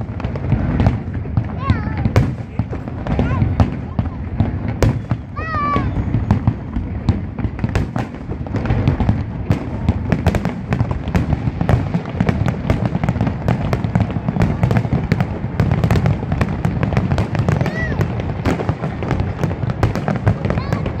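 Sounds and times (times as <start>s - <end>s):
fireworks cracking and popping: 0.0s - 21.0s
low rumble of booms: 0.0s - 21.0s.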